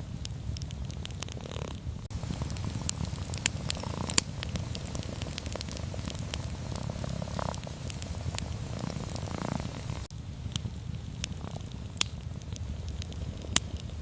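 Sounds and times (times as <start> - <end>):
campfire crackling: 0.0 - 14.0
cat purring: 1.3 - 14.0.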